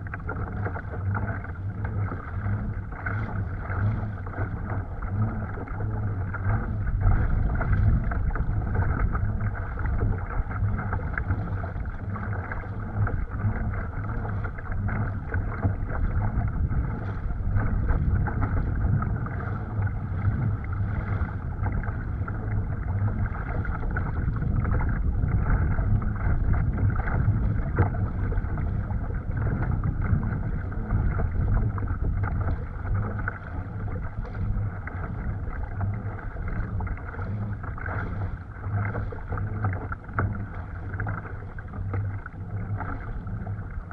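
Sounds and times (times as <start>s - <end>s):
water slapping against hull: 0.0s - 43.9s
wind on microphone: 0.0s - 43.9s.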